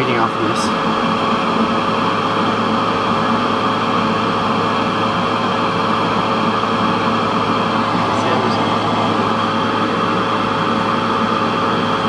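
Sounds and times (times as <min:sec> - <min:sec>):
faint motor hum: 0:00.0 - 0:12.0
fan blowing air: 0:00.0 - 0:12.0.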